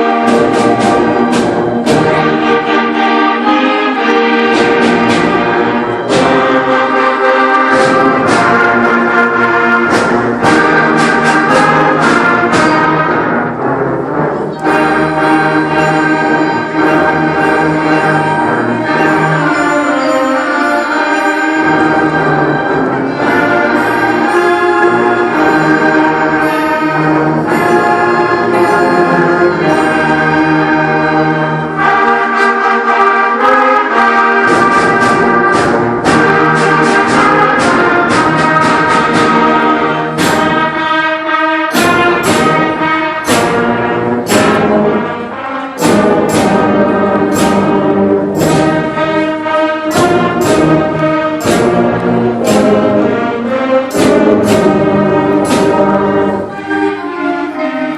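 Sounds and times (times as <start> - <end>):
brass sustained chords: 0.0 - 57.9
concert band playing: 0.0 - 57.9
percussion strikes: 0.0 - 57.9.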